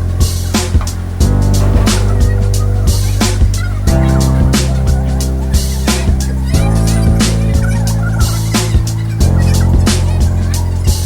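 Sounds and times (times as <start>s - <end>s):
music with deep bass and beat: 0.0s - 11.0s.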